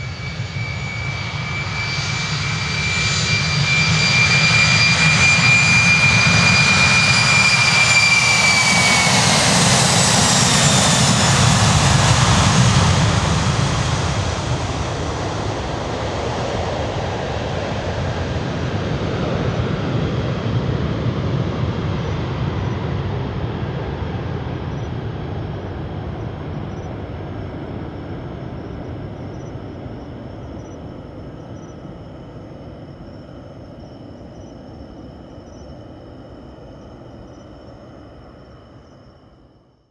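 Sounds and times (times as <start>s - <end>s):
jet airliner rumble at takeoff: 0.0s - 39.4s.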